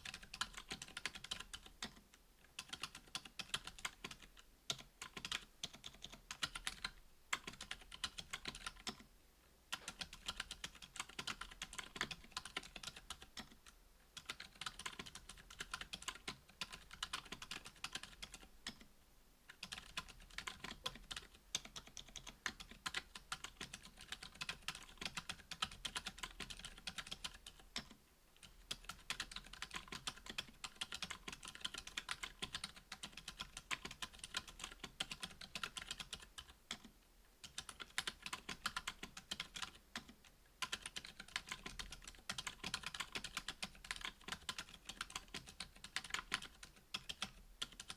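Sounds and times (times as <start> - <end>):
mechanical keyboard typing: 0.0 - 9.0, 9.7 - 13.6, 14.2 - 18.9, 19.5 - 47.9.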